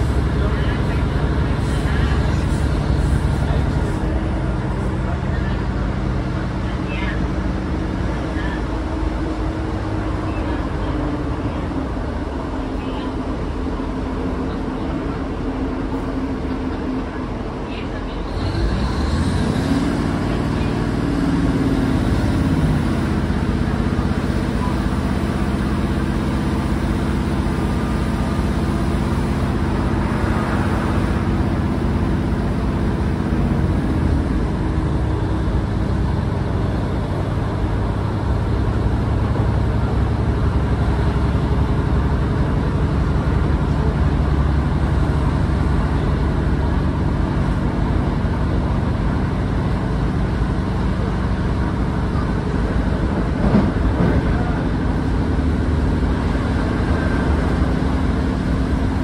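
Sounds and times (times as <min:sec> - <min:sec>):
diesel train engine droning: 0:00.0 - 0:59.0
wheel and rail noise: 0:00.0 - 0:59.0.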